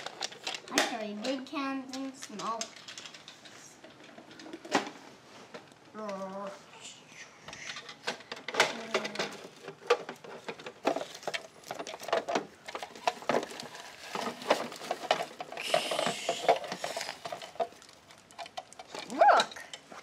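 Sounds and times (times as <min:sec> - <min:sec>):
plastic toys clicking and rattling: 0:00.0 - 0:20.0.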